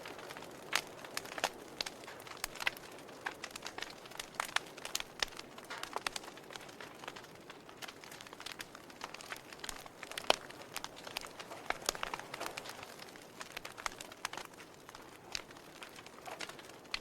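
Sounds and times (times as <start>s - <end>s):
burning wood crackling: 0.0s - 17.0s.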